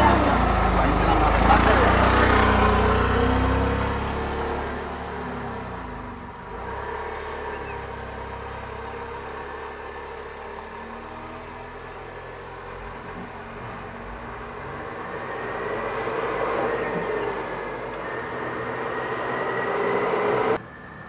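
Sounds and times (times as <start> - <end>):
auto-rickshaw engine running: 0.0 - 21.0
lorry engine running: 0.0 - 21.0.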